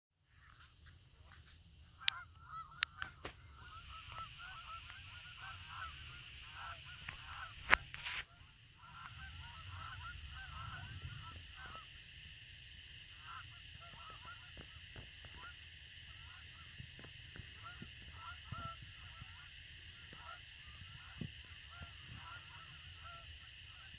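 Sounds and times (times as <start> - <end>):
steady high-pitched buzz: 0.2 - 23.9
geese honking in flight: 2.0 - 12.0, 13.1 - 23.9.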